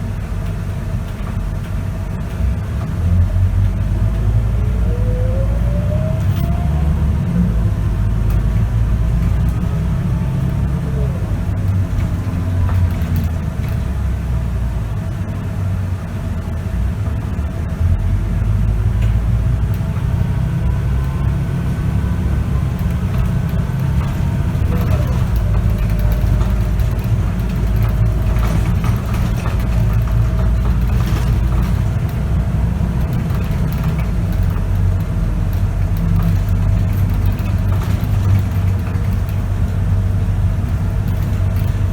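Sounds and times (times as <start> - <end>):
bus diesel engine rumble: 0.0 - 41.9
gearbox whine: 2.3 - 15.9, 18.0 - 41.9.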